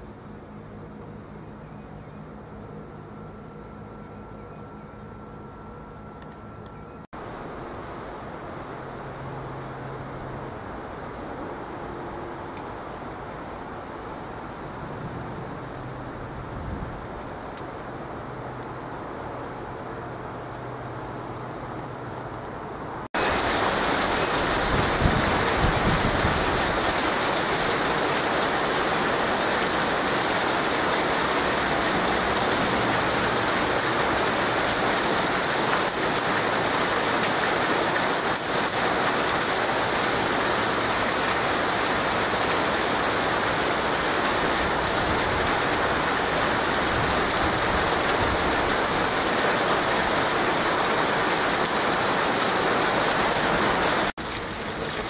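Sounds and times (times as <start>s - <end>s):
heavy rain pouring: 7.2s - 55.0s.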